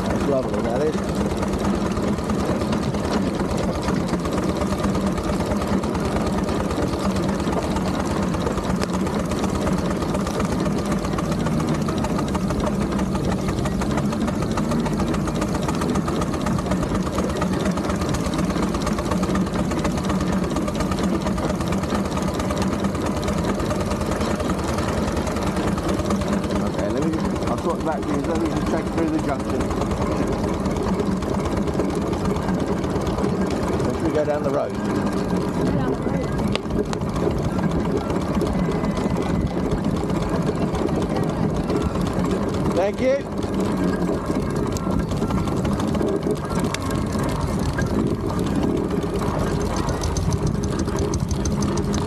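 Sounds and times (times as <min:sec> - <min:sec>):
steam traction engine running: 0:00.0 - 0:52.0.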